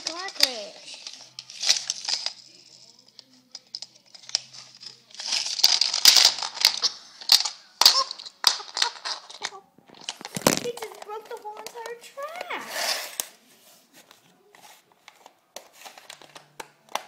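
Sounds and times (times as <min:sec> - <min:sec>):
plastic toy rustling and scraping: 0:00.0 - 0:17.0.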